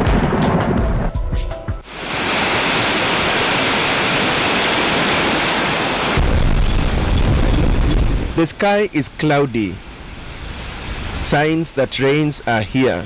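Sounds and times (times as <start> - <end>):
steady rushing noise: 1.8 - 13.0.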